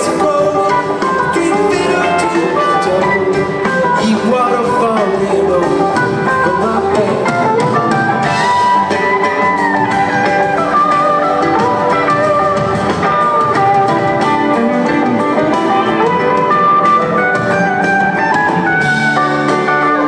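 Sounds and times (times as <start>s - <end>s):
drum kit: 0.0s - 20.0s
electric guitar lead bending notes: 0.0s - 20.0s
strummed guitar: 0.0s - 20.0s.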